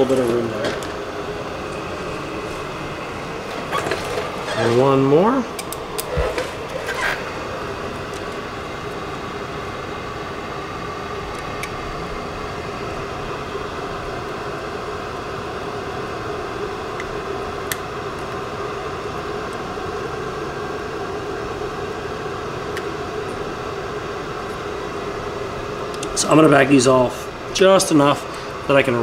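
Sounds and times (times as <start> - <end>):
fan humming and hissing: 0.0 - 29.0.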